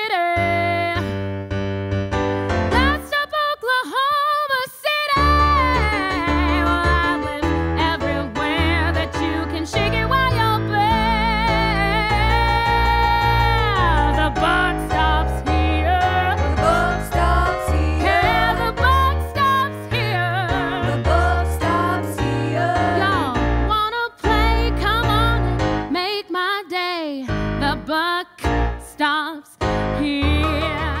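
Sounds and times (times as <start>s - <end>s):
woman singing with vibrato: 2.8s - 31.0s.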